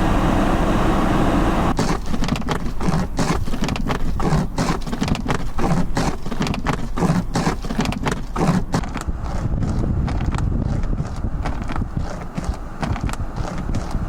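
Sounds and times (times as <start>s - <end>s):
footsteps crunching through snow: 1.7s - 14.0s.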